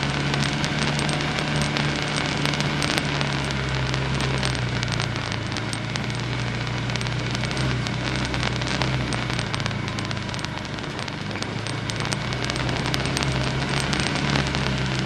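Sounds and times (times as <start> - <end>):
off-road vehicle engine humming: 0.0 - 15.0
sharp clicks and crackles: 0.0 - 15.0.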